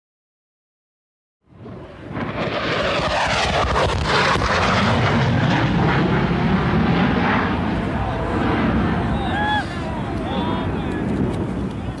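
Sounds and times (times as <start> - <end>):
jet aircraft roaring overhead: 1.5 - 12.0.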